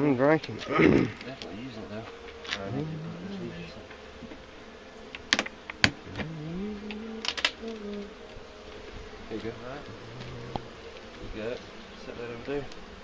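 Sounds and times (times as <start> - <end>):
honeybees buzzing: 0.0 - 13.0
wooden hive cover clicking and knocking: 0.3 - 2.7, 3.7 - 13.0.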